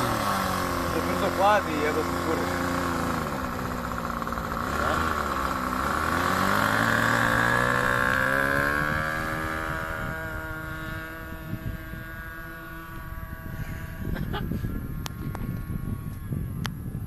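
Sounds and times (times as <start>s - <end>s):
model airplane engine and propeller: 0.0s - 17.0s.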